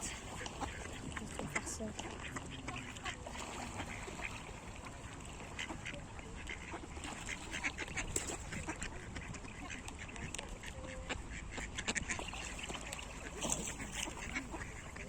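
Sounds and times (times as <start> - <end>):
ducks and geese calling: 0.0 - 15.0.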